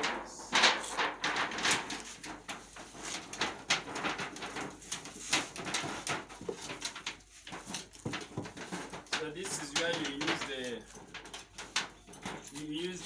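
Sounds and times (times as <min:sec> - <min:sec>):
metal roofing sheet crinkling: 0:00.0 - 0:13.0.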